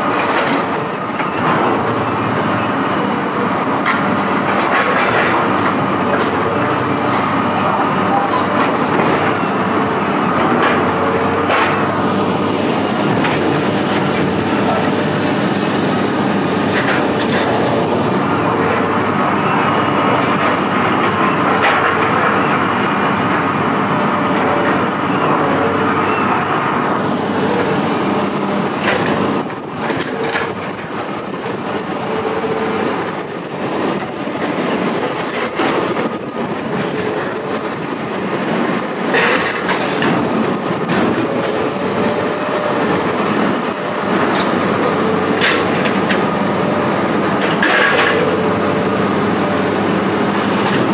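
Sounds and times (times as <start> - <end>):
heavy machinery running: 0.0 - 50.9.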